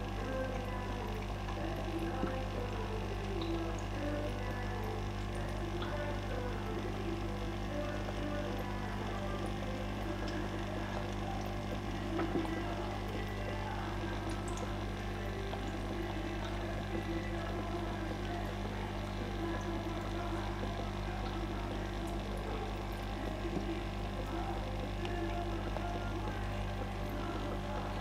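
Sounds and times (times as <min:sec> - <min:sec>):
aquarium pump humming: 0:00.0 - 0:28.0
faint moving water: 0:00.0 - 0:28.0.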